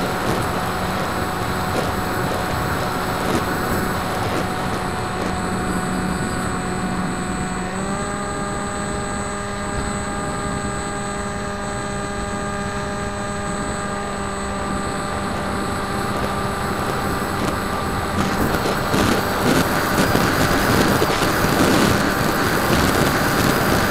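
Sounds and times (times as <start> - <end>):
electric motor and propeller drone: 0.0 - 23.9.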